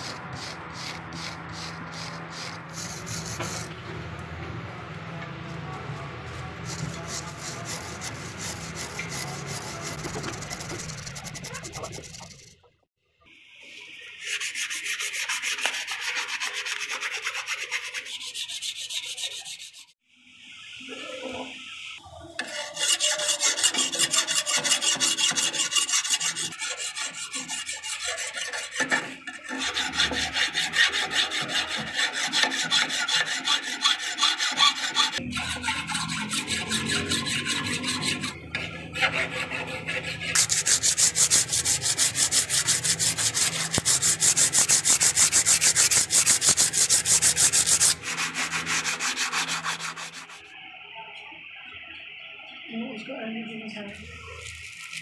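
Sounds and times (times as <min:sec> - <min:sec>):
sandpaper scraping rusty metal: 0:00.0 - 0:03.8, 0:06.2 - 0:12.6, 0:14.0 - 0:20.0, 0:22.4 - 0:50.5, 0:54.1 - 0:55.0.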